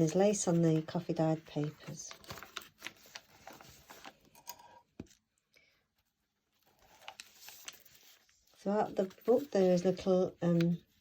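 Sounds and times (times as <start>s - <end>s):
paper pages rustling and turning: 0.0s - 5.3s, 6.0s - 11.0s.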